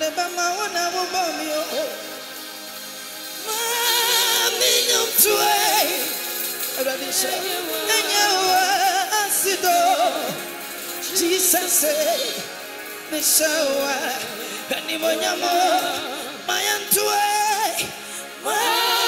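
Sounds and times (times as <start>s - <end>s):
man singing with vibrato: 0.0s - 2.6s, 3.4s - 19.0s.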